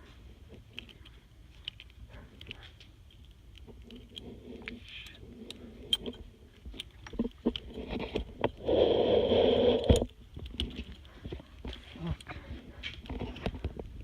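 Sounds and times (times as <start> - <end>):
small parts clicking and scraping: 0.0 - 14.0.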